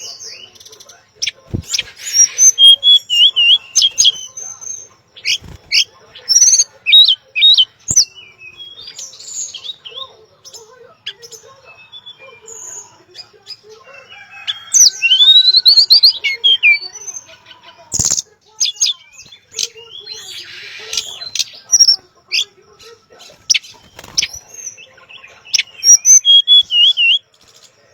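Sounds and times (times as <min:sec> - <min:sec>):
songbird chirping and whistling: 0:00.0 - 0:27.4.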